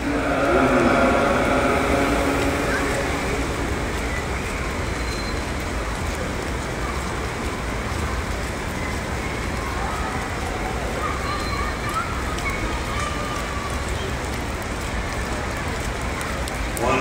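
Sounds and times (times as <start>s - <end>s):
rain on wet stone: 0.0s - 17.0s.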